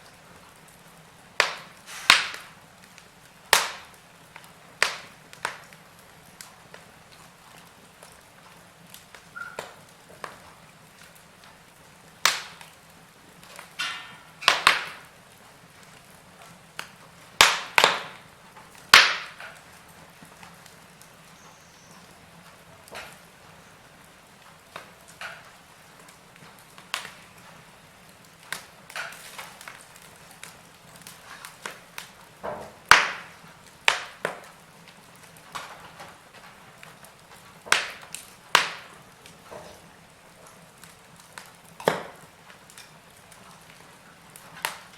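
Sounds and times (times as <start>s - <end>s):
faint steady hiss: 0.0s - 44.9s
wood fire crackling: 0.0s - 44.9s.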